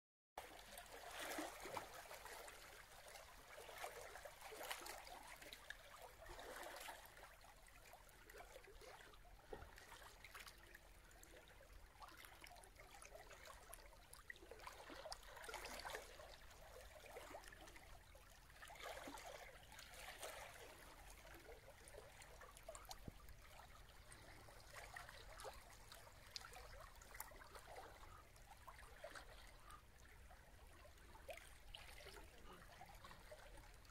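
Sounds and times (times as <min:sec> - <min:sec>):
small waves lapping against rock: 0:00.4 - 0:33.9.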